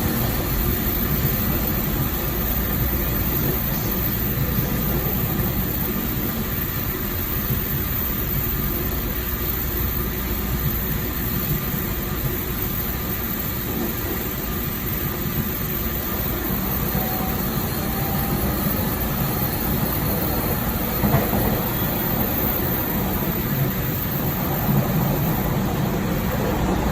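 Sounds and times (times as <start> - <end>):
train clatter: 0.0 - 26.9
train wheels rumbling: 0.0 - 26.9.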